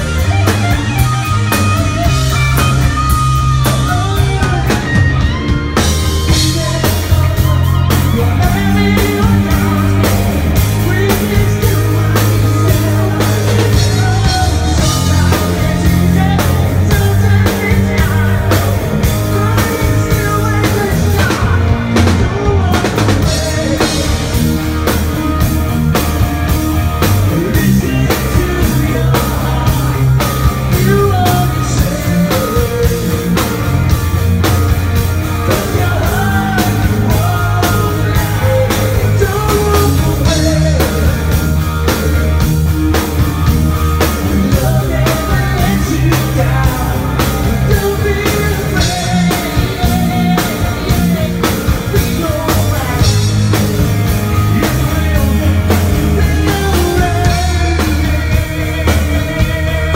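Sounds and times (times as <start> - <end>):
man singing: 0.0 - 34.0, 34.6 - 42.6, 43.7 - 59.9
live rock band playing: 0.0 - 59.9
steady drumbeat: 0.0 - 59.9.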